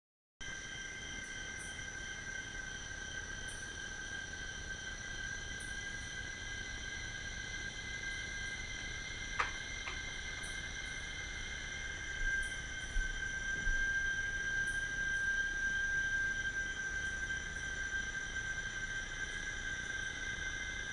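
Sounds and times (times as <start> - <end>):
insects chirping high tones: 0.4 - 20.9.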